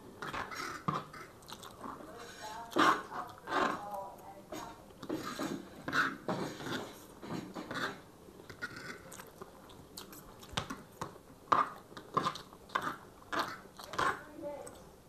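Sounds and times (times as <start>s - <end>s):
chewing food: 0.1s - 14.9s.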